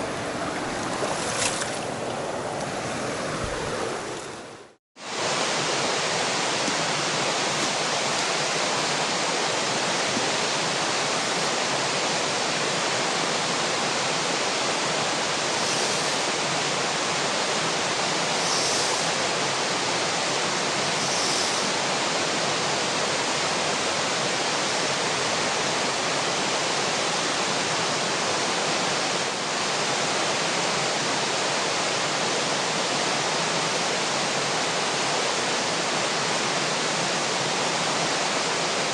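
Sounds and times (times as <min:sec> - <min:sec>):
river water over rapids: 0:00.0 - 0:38.9.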